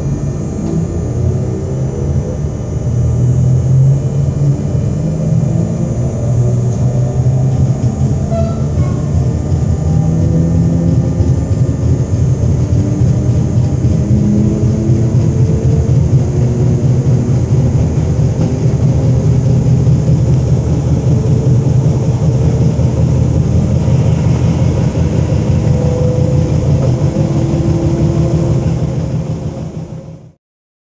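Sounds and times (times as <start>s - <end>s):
traction motor tones: 0.0s - 30.3s
electric train rumbling: 0.0s - 30.4s.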